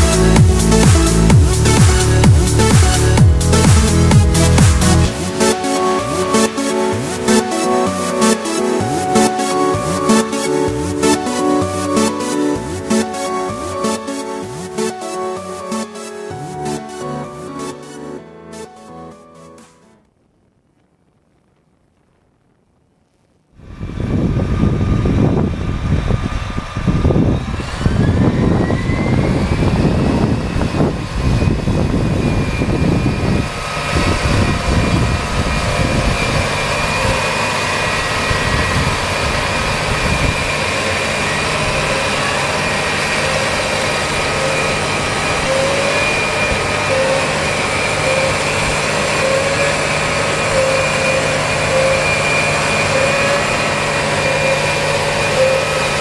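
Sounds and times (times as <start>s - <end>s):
tractor diesel engine under load: 0.0s - 17.6s, 23.7s - 56.0s
rising machine whine: 0.0s - 20.0s, 23.6s - 56.0s.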